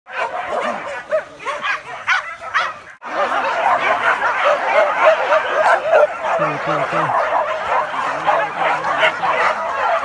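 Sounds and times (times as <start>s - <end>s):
hunting dogs yelping and baying: 0.1s - 10.0s.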